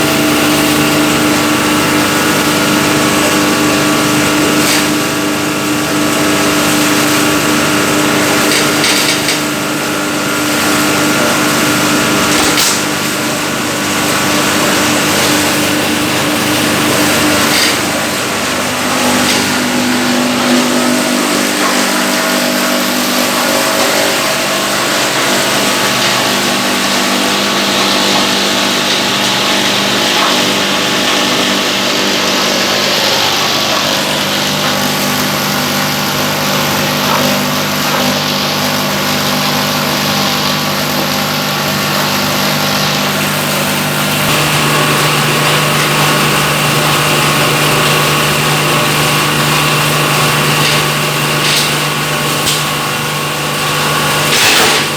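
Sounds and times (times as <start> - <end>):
waste grinder running: 0.0 - 54.9.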